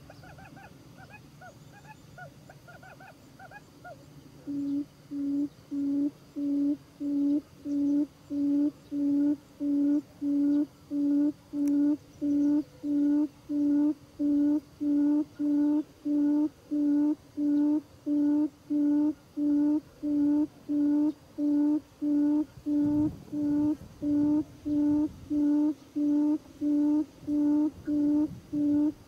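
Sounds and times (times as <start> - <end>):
low hooting bird call: 0.0 - 29.0.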